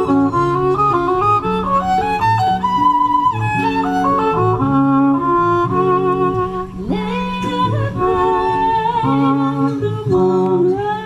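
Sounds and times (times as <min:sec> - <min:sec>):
held chords: 0:00.0 - 0:11.0
lead melody with vibrato: 0:00.0 - 0:11.0.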